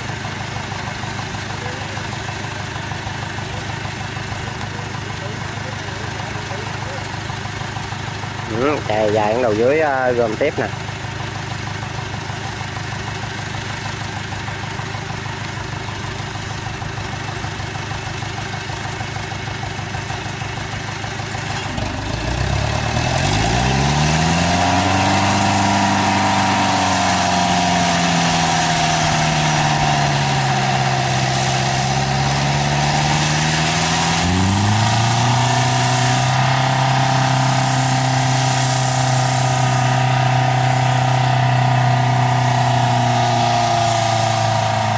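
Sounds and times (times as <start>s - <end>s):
small engine idling and revving: 0.0s - 44.9s.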